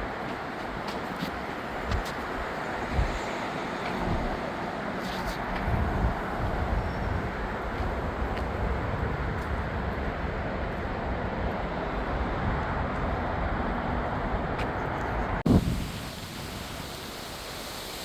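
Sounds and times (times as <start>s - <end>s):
traffic rumble and hiss: 0.0s - 18.0s.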